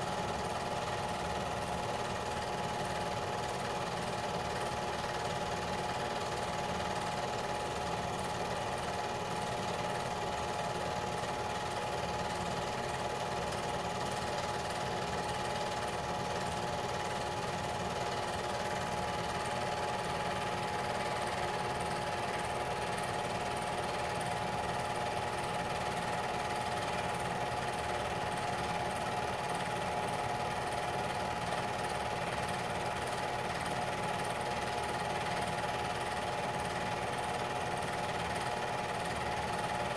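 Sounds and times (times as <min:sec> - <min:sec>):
film projector motor whir: 0:00.0 - 0:39.9.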